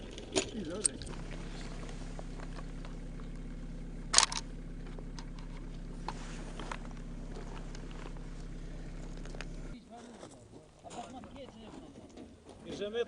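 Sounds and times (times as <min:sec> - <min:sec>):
low mechanical hum: 0:00.0 - 0:12.6.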